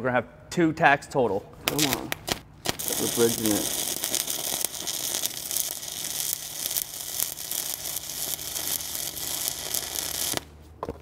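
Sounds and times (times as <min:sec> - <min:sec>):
welding arc crackling sizzle: 0:01.6 - 0:10.5.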